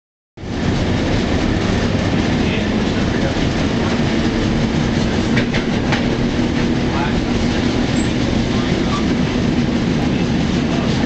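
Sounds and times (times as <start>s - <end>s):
streetcar wheels rumbling on rail: 0.4s - 11.0s.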